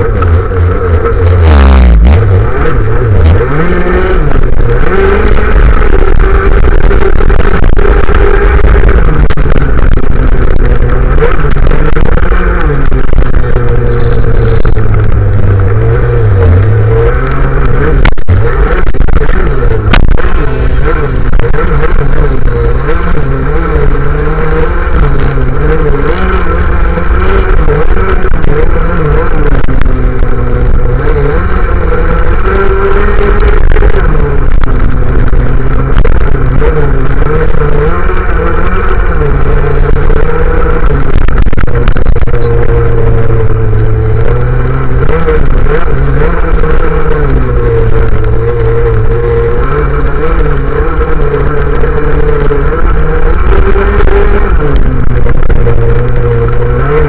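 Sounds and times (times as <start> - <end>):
moped engines: 0.0 - 57.0
scooter engine revving: 0.0 - 57.0.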